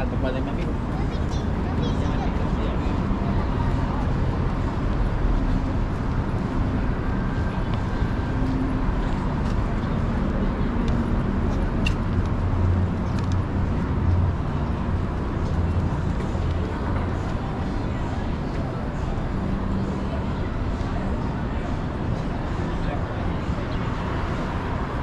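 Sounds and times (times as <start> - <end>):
motor vehicle engines rumbling: 0.0 - 25.0
tyres on road: 0.0 - 25.0.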